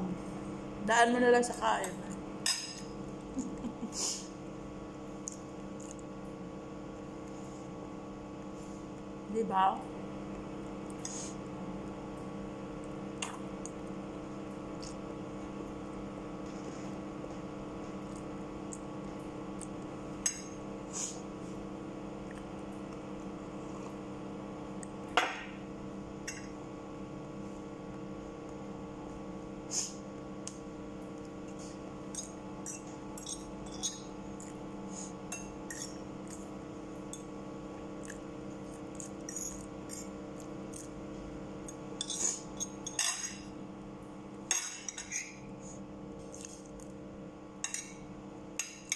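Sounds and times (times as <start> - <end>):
steady electrical hum: 0.0 - 48.9.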